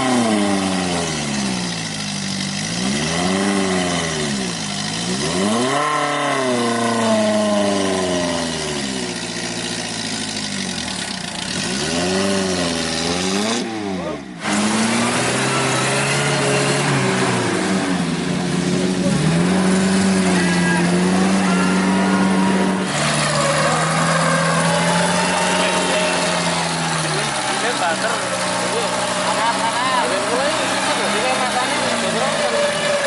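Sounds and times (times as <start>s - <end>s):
jeep engine revving: 0.0s - 33.0s.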